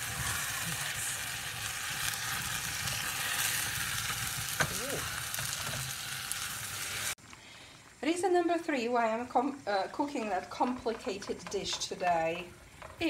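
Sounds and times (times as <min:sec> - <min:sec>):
flames burning: 0:00.0 - 0:13.0
onions sizzling in a pot: 0:00.0 - 0:13.0.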